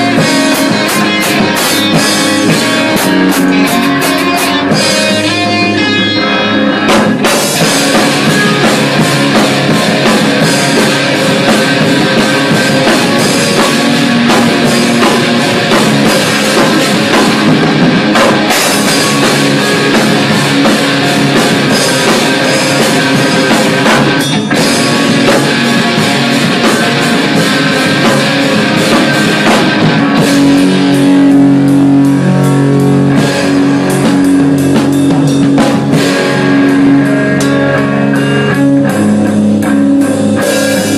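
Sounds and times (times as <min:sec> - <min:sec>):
held guitar chords: 0:00.0 - 0:40.9
rock band playing: 0:00.0 - 0:40.9.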